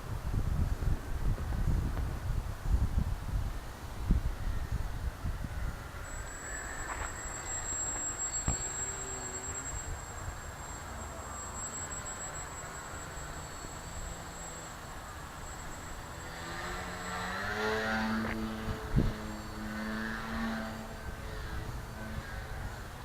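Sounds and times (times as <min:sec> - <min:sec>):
wind buffeting microphone: 0:00.0 - 0:11.6, 0:12.6 - 0:23.0
model plane motor whining: 0:00.4 - 0:23.0.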